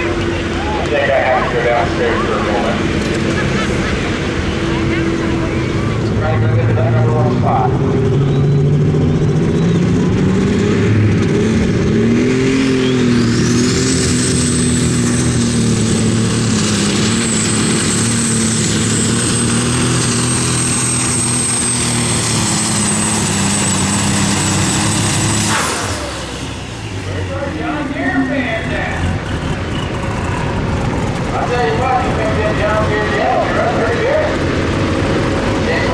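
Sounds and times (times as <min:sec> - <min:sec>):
tractor engine at full power: 0:00.0 - 0:35.9.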